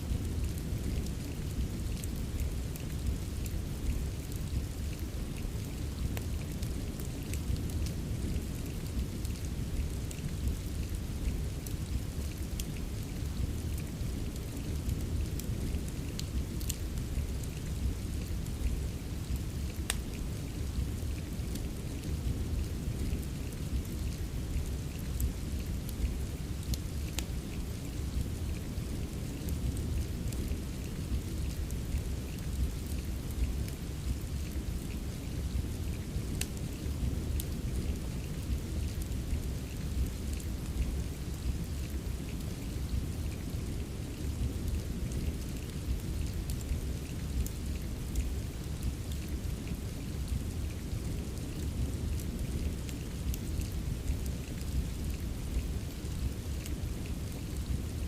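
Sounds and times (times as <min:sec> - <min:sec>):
steady rain: 0:00.0 - 0:58.0
fireplace crackling: 0:00.1 - 0:49.5.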